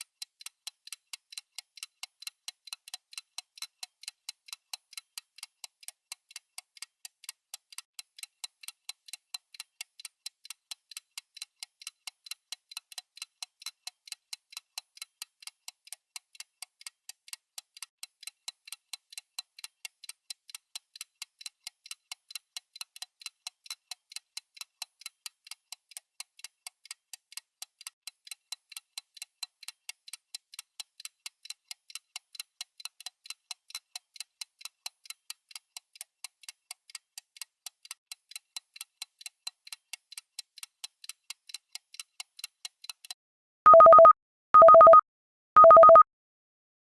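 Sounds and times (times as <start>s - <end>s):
fast clock ticking: 0.0s - 45.0s.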